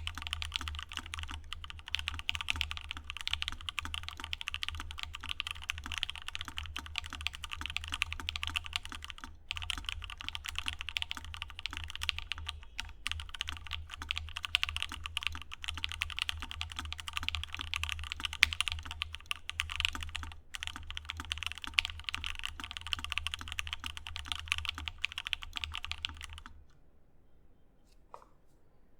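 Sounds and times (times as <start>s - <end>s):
fast mechanical keyboard typing: 0.0s - 26.6s.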